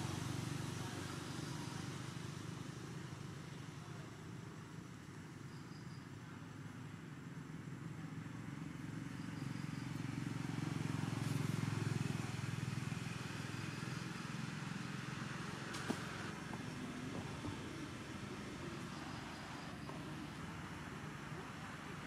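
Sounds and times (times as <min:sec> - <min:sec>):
passing vehicle engine hum: 0:00.0 - 0:05.5, 0:06.1 - 0:22.0.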